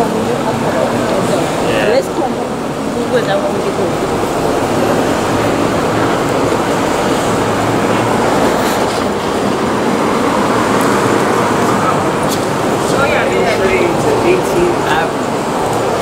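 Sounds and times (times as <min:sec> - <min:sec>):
subway train rumbling on rails: 0:00.0 - 0:16.0.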